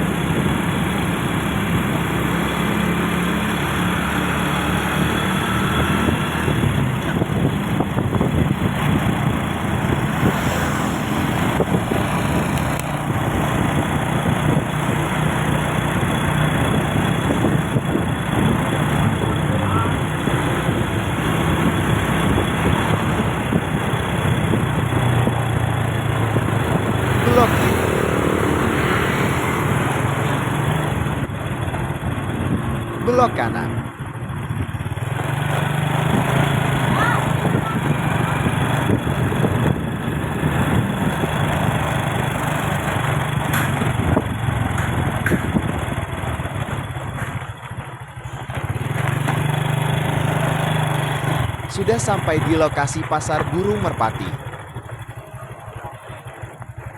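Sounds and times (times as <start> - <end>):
vehicle engine running: 0.0 - 56.9.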